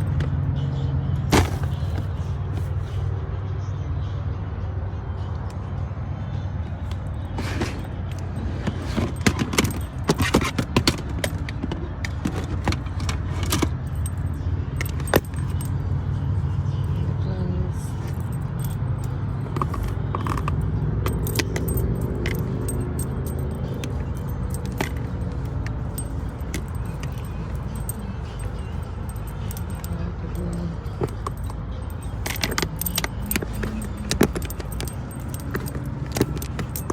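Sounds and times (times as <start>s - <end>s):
keys jangling: 1.3s - 3.0s, 6.8s - 17.0s, 17.8s - 36.9s.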